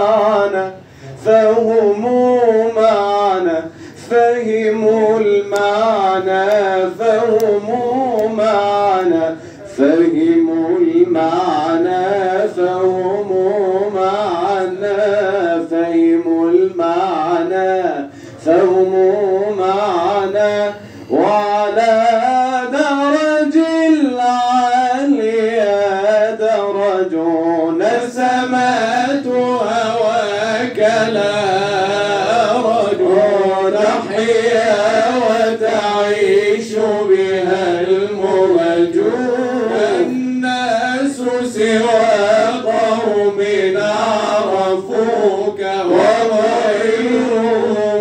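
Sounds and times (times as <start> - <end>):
man singing religious chant: 0.0 - 48.0.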